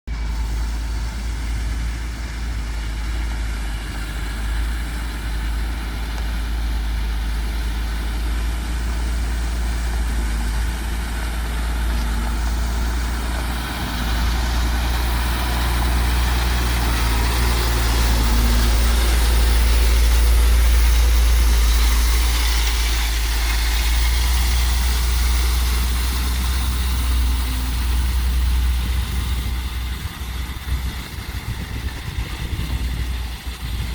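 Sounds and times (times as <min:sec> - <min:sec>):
dump truck diesel engine running: 0:00.0 - 0:33.9.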